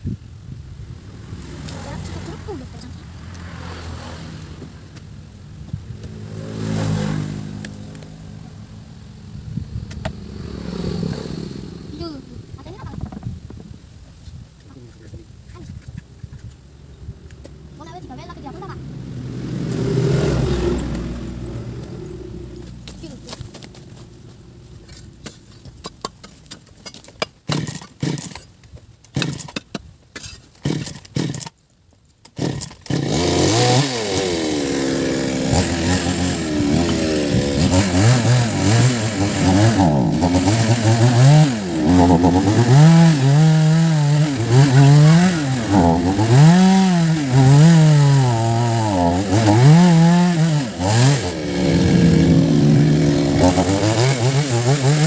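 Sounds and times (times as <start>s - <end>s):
chainsaw engine revving: 0.9s - 13.0s, 17.2s - 25.8s, 27.4s - 28.5s, 29.1s - 29.6s, 30.2s - 31.5s, 32.2s - 55.0s.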